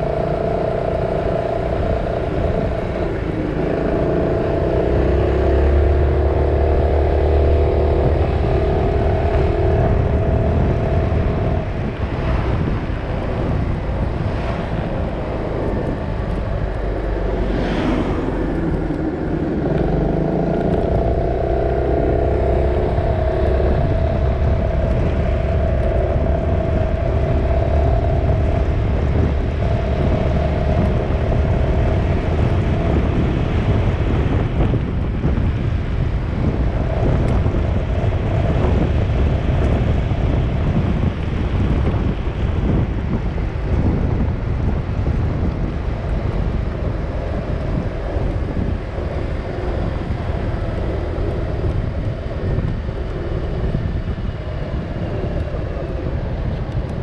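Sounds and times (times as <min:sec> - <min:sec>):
humming drive tone: 0:00.0 - 0:57.0
vehicle rumble: 0:00.0 - 0:57.0
wind on microphone: 0:00.0 - 0:57.0.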